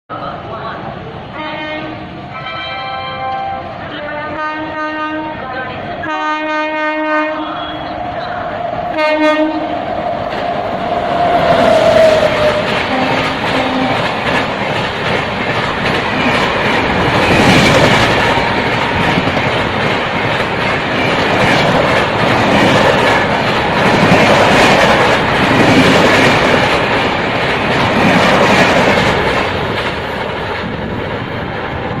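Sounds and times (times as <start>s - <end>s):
train wheels rushing on rails: 0.1s - 32.0s.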